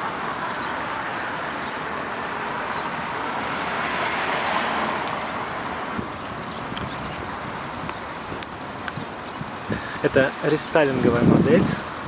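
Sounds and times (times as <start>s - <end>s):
road traffic hiss: 0.0s - 12.0s.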